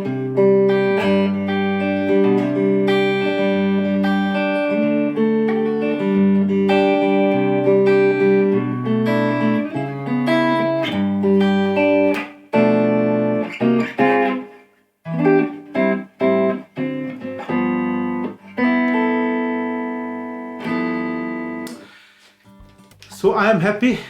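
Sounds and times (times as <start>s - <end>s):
electric guitar chords: 0.0s - 23.2s.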